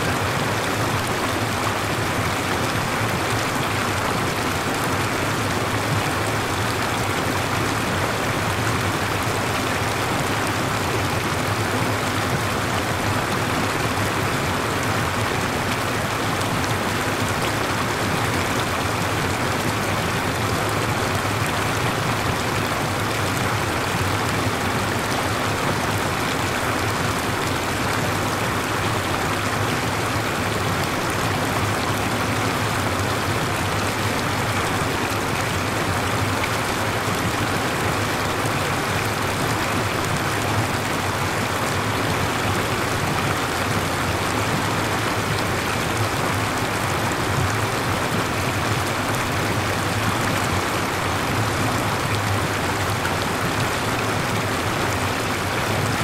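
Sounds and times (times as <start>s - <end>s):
stream rushing: 0.0s - 56.0s.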